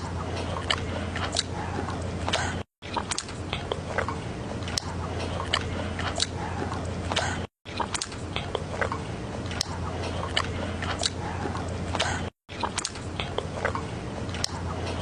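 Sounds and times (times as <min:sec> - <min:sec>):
mouse chewing food: 0:00.0 - 0:15.0
steady low hum: 0:00.0 - 0:15.0.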